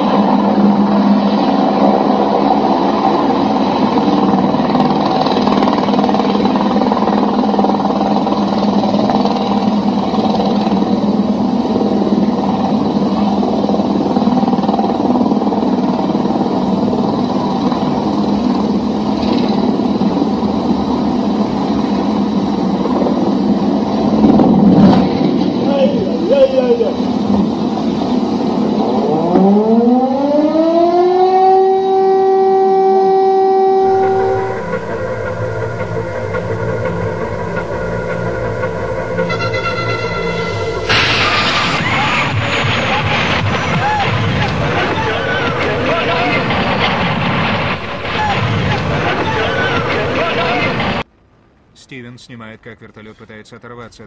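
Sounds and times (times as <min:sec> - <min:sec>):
helicopter engine and rotor drone: 0:00.0 - 0:51.1.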